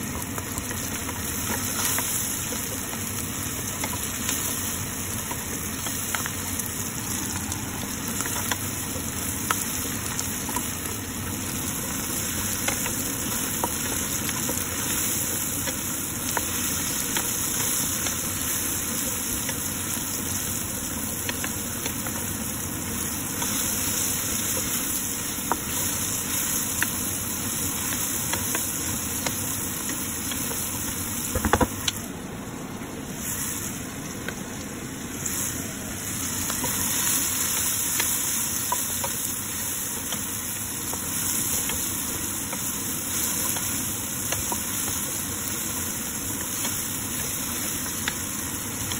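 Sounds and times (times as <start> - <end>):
vegetables sizzling in oil: 0.0 - 48.9.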